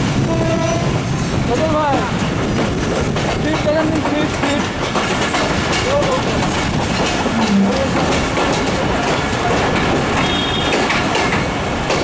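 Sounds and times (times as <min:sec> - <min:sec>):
train wheel and rail noise: 0:00.0 - 0:12.0.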